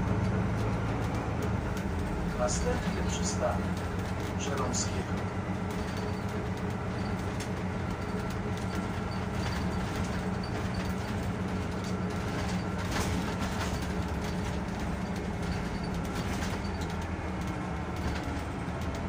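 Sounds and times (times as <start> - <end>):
bus engine drone: 0.0 - 19.0
road noise: 0.0 - 19.0
cabin ticks and rattles: 0.2 - 19.0.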